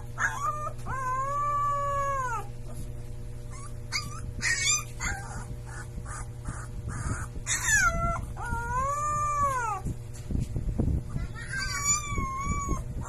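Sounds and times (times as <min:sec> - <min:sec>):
puppy yips and cries: 0:00.0 - 0:02.5, 0:03.5 - 0:09.8, 0:11.1 - 0:13.0
puppy howling: 0:00.0 - 0:02.6, 0:03.5 - 0:09.9, 0:11.1 - 0:13.0.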